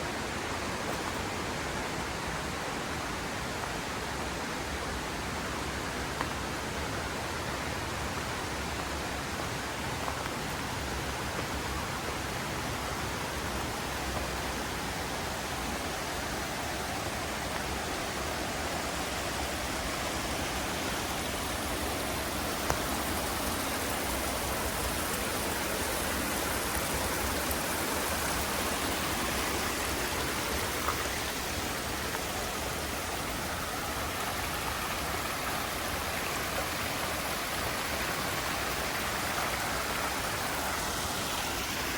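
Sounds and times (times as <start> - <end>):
river rushing over rocks: 0.0 - 41.9.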